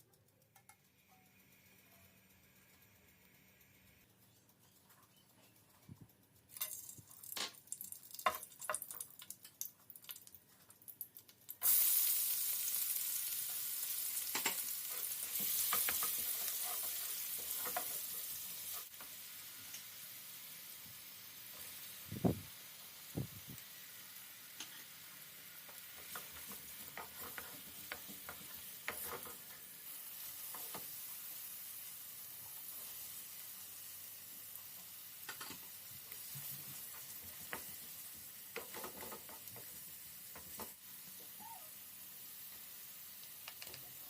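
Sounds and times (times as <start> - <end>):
food sizzling in a pan: 6.5 - 44.0.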